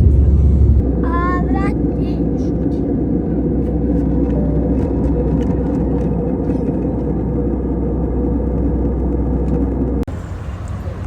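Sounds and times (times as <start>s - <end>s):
airliner cabin engine noise: 0.0s - 11.0s.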